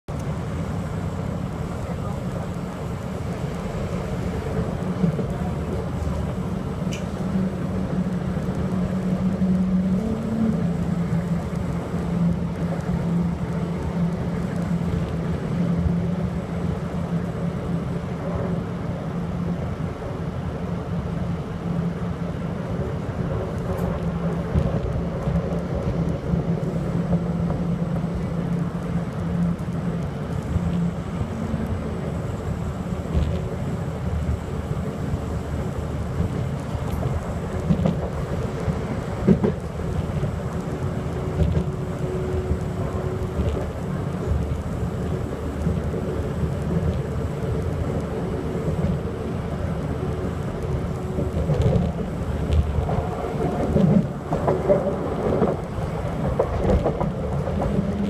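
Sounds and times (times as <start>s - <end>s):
train rumble from inside carriage: 0.0s - 58.0s.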